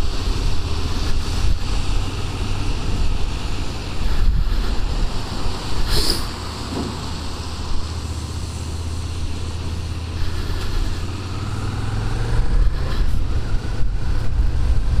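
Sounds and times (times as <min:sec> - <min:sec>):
tyre hiss on wet road: 0:00.0 - 0:15.0
wind: 0:00.0 - 0:15.0.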